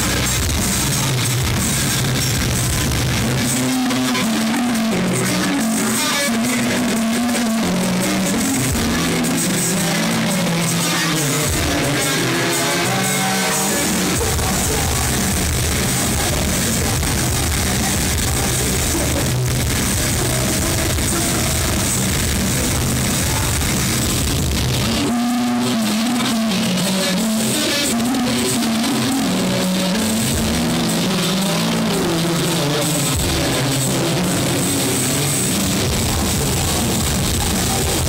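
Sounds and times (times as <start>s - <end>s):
heavy metal band playing live: 0.0s - 38.0s.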